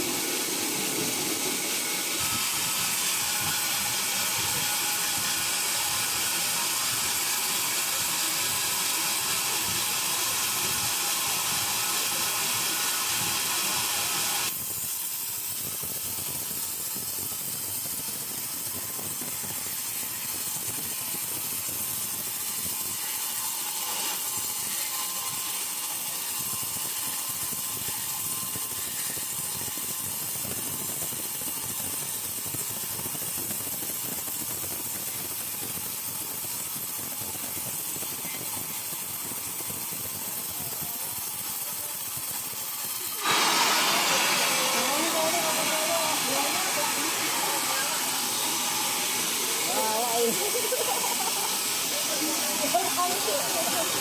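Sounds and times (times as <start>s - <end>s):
sawmill machinery whirring: 0.0s - 54.0s.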